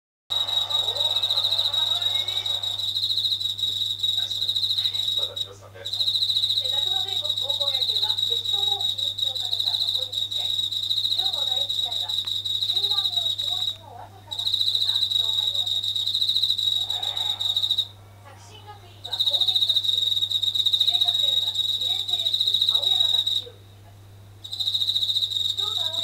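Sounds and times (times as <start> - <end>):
katydid pulsing buzz: 0.3 - 23.6, 24.4 - 26.0.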